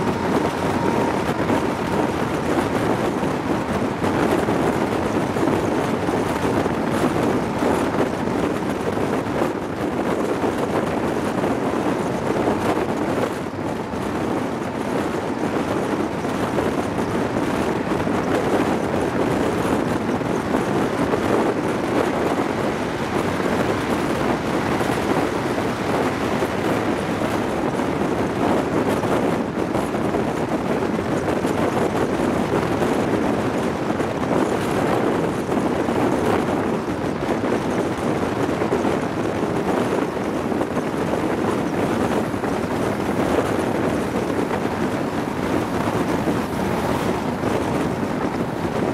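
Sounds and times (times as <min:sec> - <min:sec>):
train running on track: 0:00.0 - 0:48.9
wind rushing over microphone: 0:00.0 - 0:48.9.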